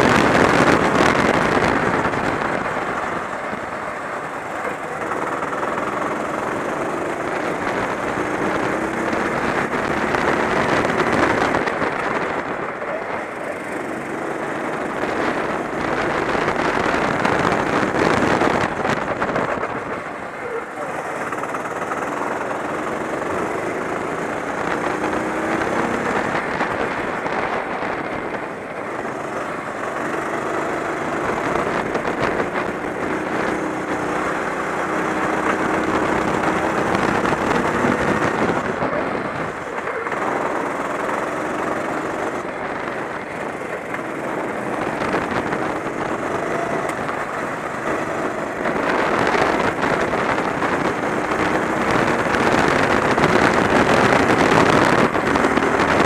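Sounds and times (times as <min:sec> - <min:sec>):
kart engine racing: 0:00.0 - 0:56.0
steady noisy rush: 0:00.0 - 0:56.0.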